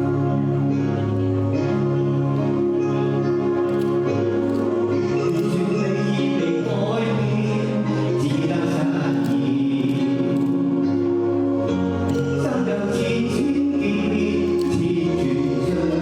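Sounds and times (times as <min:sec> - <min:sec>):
slow song with held chords: 0:00.0 - 0:16.0.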